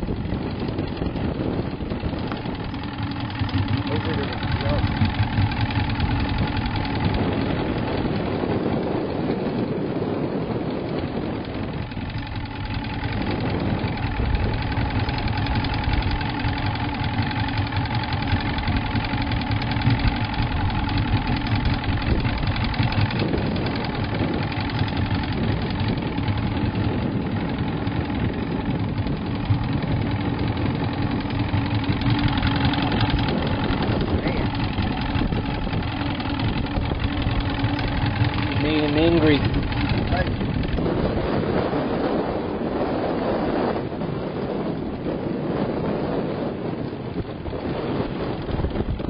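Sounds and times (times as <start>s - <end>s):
boat motor idling: 0.0s - 49.0s.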